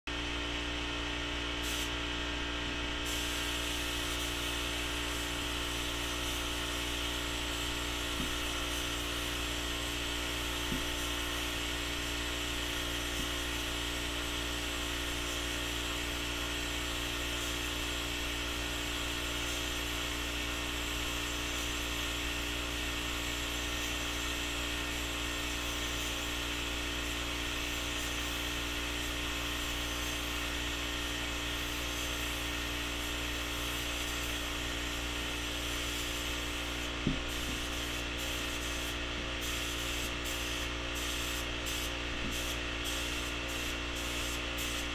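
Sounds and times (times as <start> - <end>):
compressed air supply hum: 0.1 - 44.9
spray gun air hiss: 1.5 - 2.0, 3.0 - 44.9.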